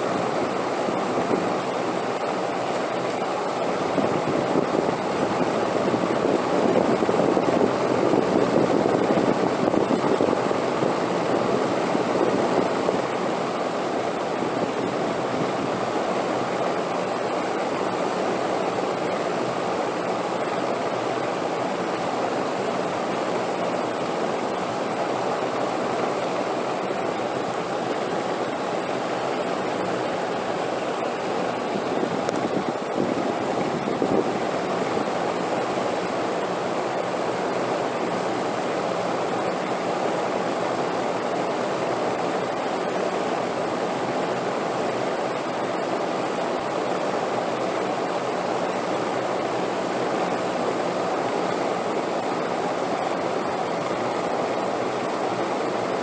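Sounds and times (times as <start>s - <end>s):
rushing wind: 0.0s - 56.0s.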